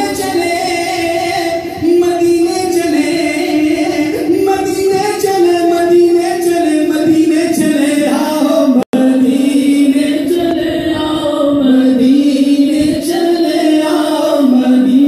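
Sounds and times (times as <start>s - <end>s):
person singing unaccompanied: 0.0s - 15.0s.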